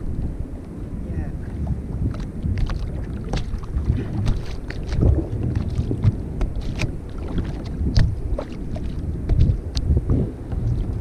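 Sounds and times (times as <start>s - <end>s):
water lapping against plastic hull: 0.0s - 11.0s
wind buffeting microphone: 0.0s - 11.0s.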